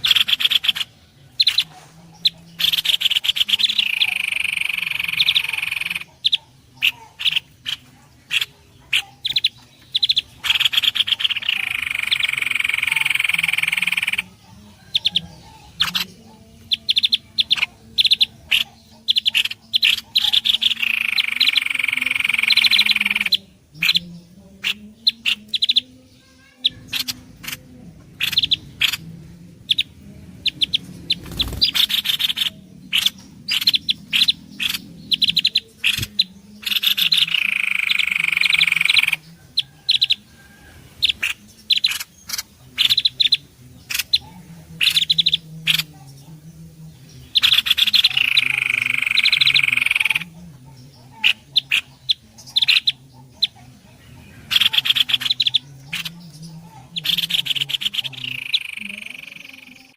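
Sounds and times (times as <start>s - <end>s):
songbird chirps and clicks: 0.0s - 29.1s, 29.7s - 46.3s, 47.2s - 59.9s
loud buzzy bird trill: 0.0s - 40.3s, 47.2s - 59.9s.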